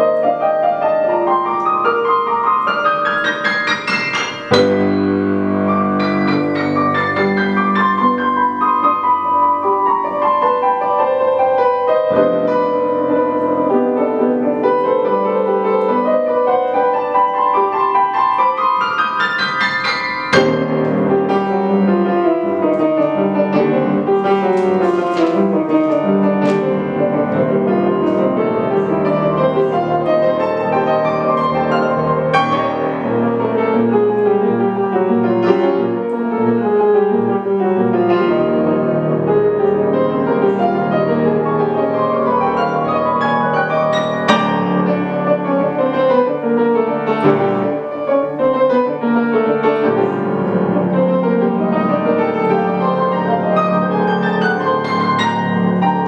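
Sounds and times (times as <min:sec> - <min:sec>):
piano duet: 0:00.0 - 0:56.0.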